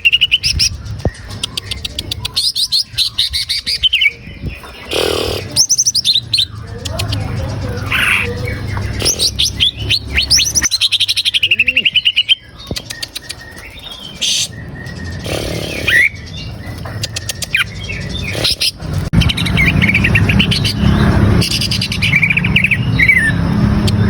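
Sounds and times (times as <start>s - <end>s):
bird singing whistles and trills: 0.0s - 24.0s.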